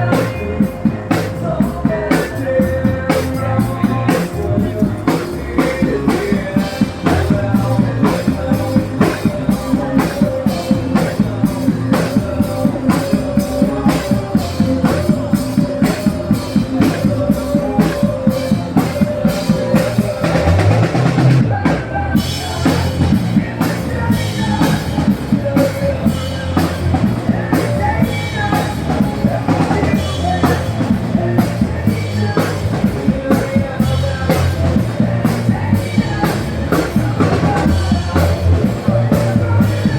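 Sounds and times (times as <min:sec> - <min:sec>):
instrumental pop music: 0:00.0 - 0:39.9.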